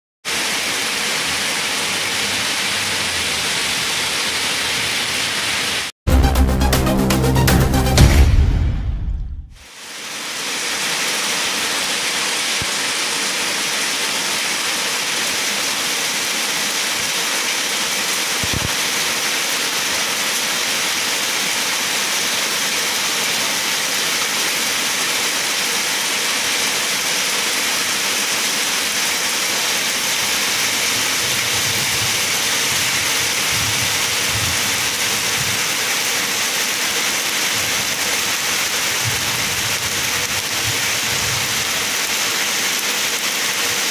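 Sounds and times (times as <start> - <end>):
heavy rain falling: 0.3 - 5.9, 9.6 - 43.9.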